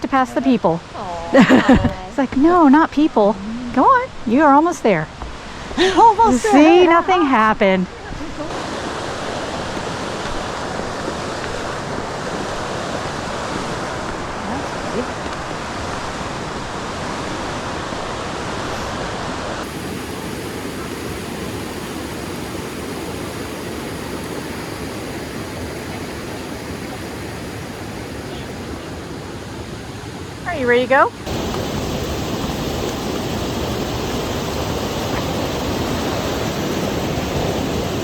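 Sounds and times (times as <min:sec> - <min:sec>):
rushing mountain stream water: 0:00.0 - 0:38.0.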